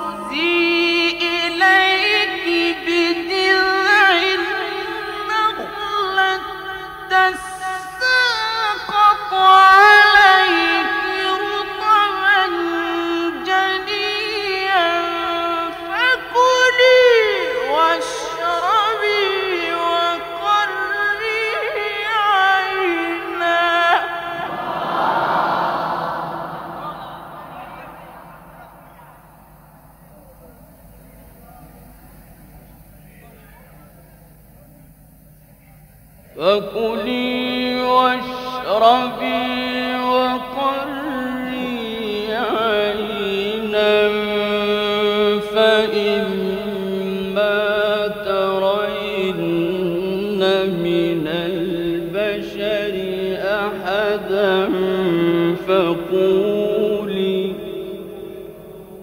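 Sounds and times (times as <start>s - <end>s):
man chanting melodically: 0.0s - 35.0s, 36.0s - 59.0s.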